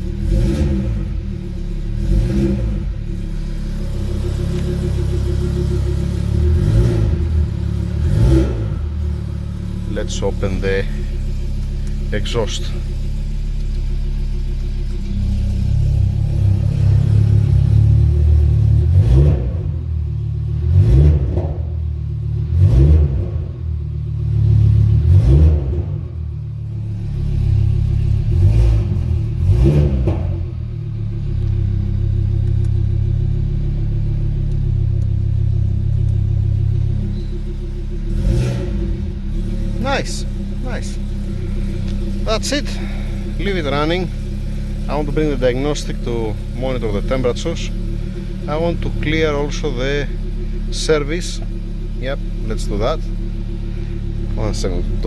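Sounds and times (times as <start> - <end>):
car engine revving and idling: 0.0 - 55.0.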